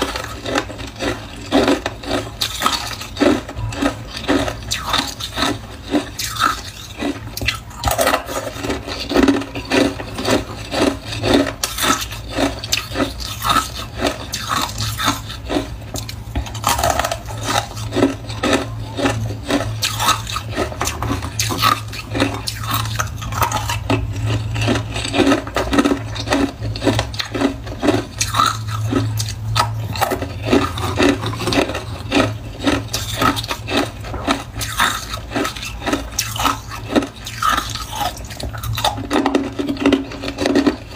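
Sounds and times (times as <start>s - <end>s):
crunching and chewing ice: 0.0s - 40.9s.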